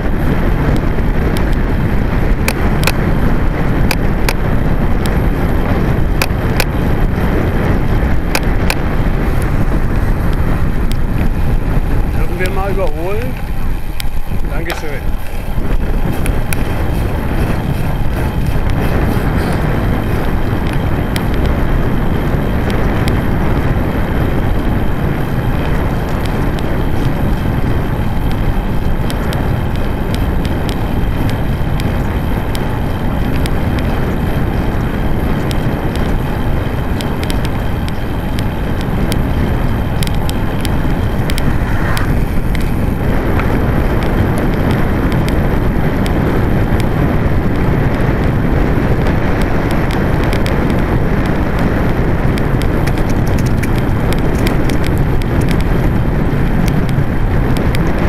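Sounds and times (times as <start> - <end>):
road rumble: 0.0 - 58.0
wind rushing over microphone: 0.0 - 58.0.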